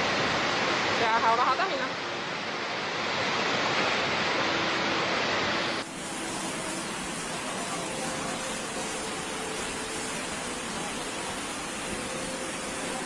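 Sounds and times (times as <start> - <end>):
heavy rain and running water: 0.0 - 13.0.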